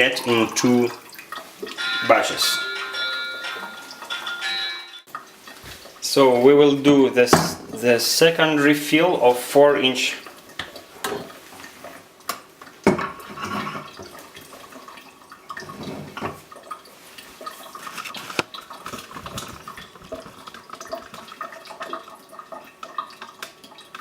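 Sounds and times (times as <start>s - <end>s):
liquid dripping and splashing: 0.0s - 3.0s, 5.0s - 24.0s.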